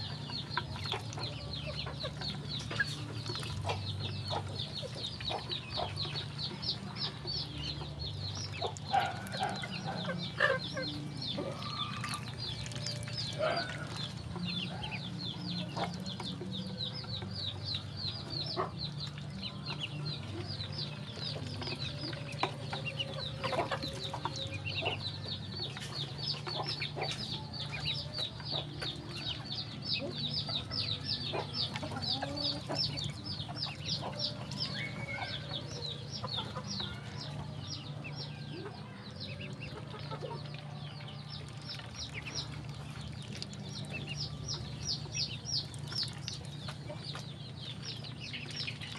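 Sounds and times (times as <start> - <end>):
bills pecking at feeder: 0.0 - 48.9
ducklings peeping: 0.0 - 48.9.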